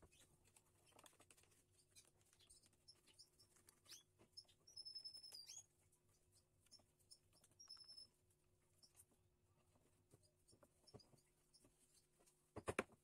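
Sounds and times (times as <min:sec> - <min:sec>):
small bird chirping: 0:00.0 - 0:09.1, 0:10.2 - 0:12.1.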